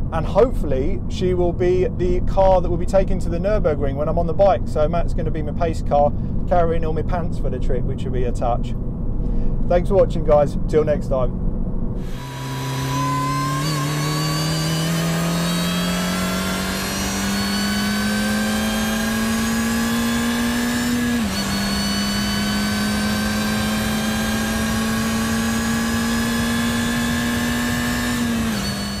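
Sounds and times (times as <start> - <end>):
car engine accelerating: 0.0 - 29.0
high supercharger whine: 0.0 - 29.0.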